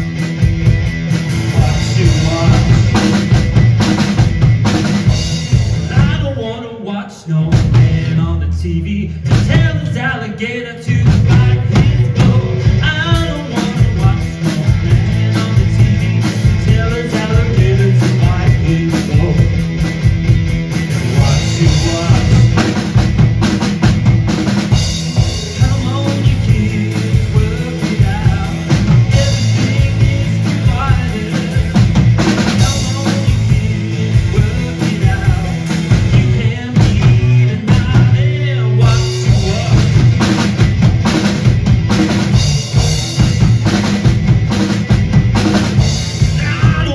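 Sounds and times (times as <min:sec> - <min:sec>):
drum kit beat: 0:00.0 - 0:06.5, 0:07.5 - 0:08.2, 0:09.3 - 0:10.1, 0:10.9 - 0:46.9.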